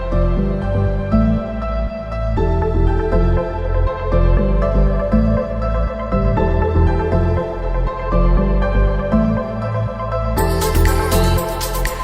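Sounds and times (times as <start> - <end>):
deep bass line: 0.0 - 12.0.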